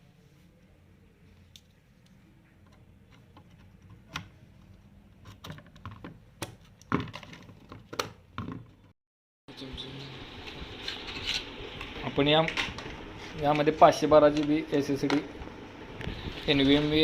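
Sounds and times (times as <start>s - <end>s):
room hum: 0.0s - 8.9s, 9.5s - 17.0s.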